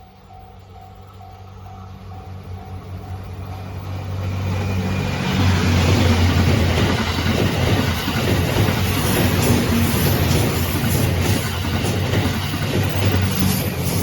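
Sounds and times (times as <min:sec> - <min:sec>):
crossing warning bell: 0:00.0 - 0:14.0
train engine hum and running noise: 0:00.0 - 0:14.0.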